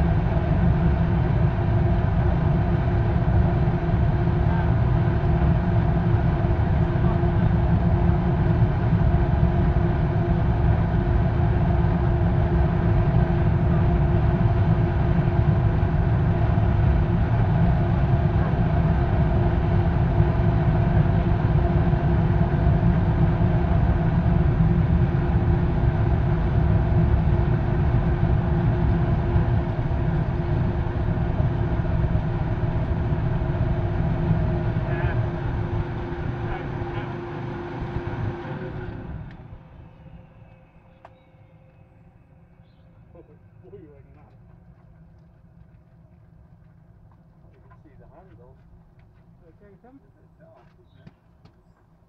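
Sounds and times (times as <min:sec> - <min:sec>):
furnace burner roaring: 0:00.0 - 0:51.0
faint hum: 0:00.0 - 0:52.0.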